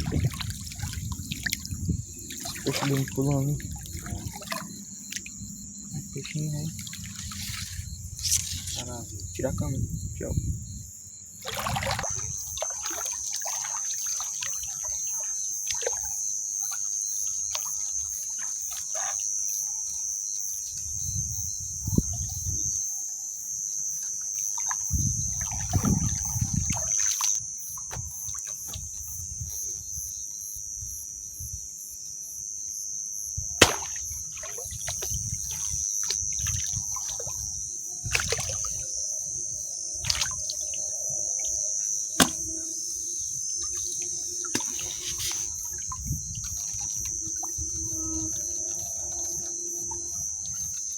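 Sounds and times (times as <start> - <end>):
crickets chirping: 0.0 - 50.9
water sloshing and trickling: 0.0 - 50.9.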